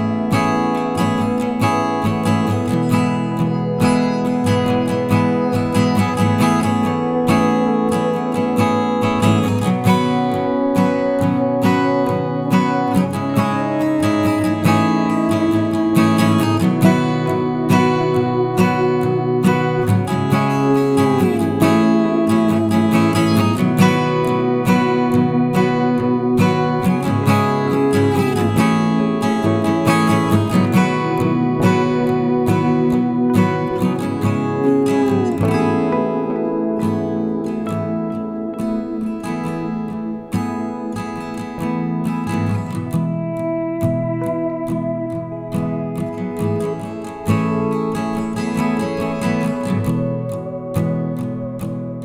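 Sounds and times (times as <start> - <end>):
acoustic guitar music: 0.0 - 52.0.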